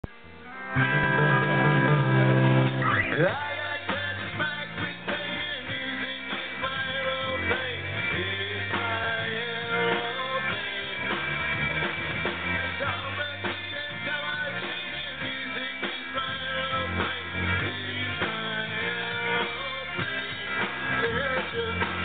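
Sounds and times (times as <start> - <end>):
bass guitar: 0.0 - 22.0
drum kit: 0.0 - 22.0
electric guitars: 0.0 - 22.0.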